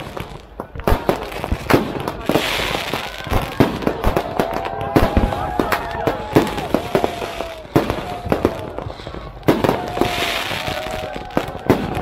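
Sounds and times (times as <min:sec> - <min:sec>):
fireworks bangs and pops: 0:00.0 - 0:12.0
fireworks crackling hiss: 0:00.0 - 0:12.0
fireworks whistling: 0:00.0 - 0:12.0.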